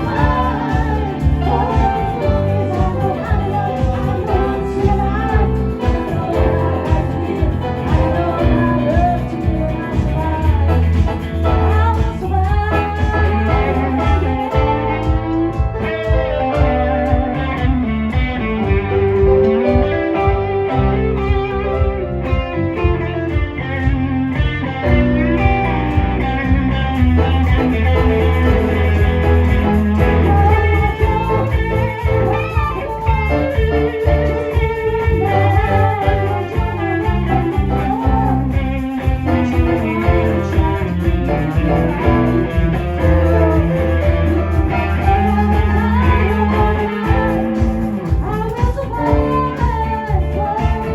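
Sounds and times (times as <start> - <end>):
guitar: 0.0 - 50.9
live band playing: 0.0 - 50.9
sustained bass notes: 0.0 - 50.9.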